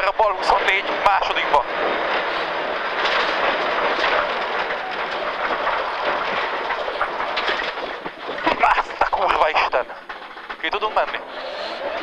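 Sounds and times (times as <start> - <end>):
knocks and rattles: 0.0 - 12.0.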